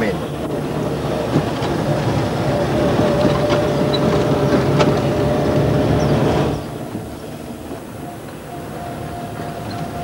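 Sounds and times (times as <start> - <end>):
car engine and road noise: 0.0 - 10.0
faint steady whine: 0.0 - 10.0.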